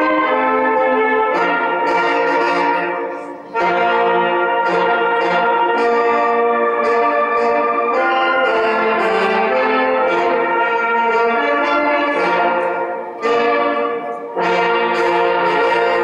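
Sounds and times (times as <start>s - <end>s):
brass band playing chords: 0.0s - 16.0s.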